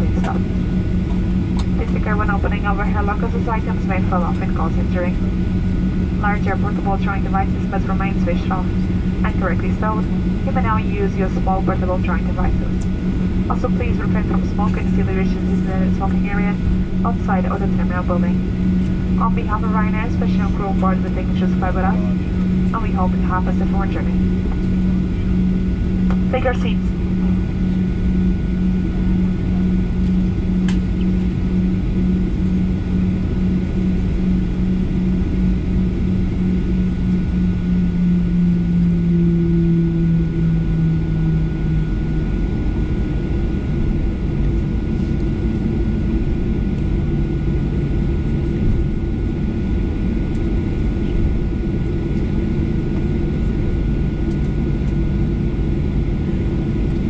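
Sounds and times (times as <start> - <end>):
faint high whine: 0.0 - 57.0
jet engine drone: 0.0 - 57.0.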